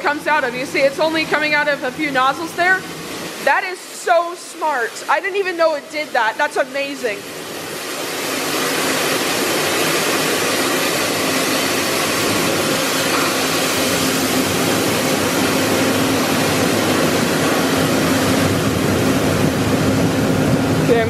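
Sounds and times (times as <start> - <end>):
car wash spray hissing: 0.0 - 21.0
steady hum: 0.0 - 21.0.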